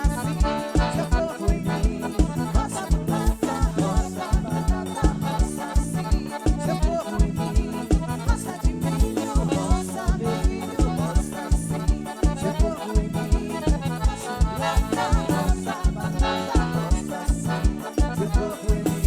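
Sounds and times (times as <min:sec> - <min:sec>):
accordion melody: 0:00.0 - 0:19.0
fast kick drum beat: 0:00.0 - 0:19.0.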